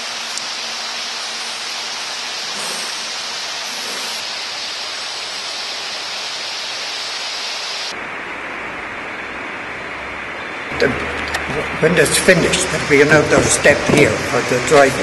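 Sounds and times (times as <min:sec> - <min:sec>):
loud hiss: 0:00.0 - 0:08.0, 0:10.7 - 0:15.0.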